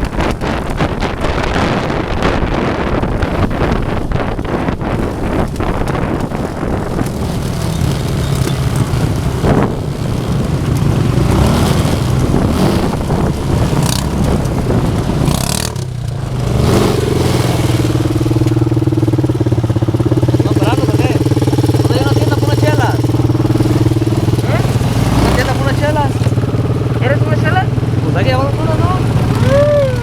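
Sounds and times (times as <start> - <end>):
motorcycle engines running: 0.0 - 30.0
motorcycle idling close by: 0.0 - 30.0
rough noisy wash: 0.0 - 30.0.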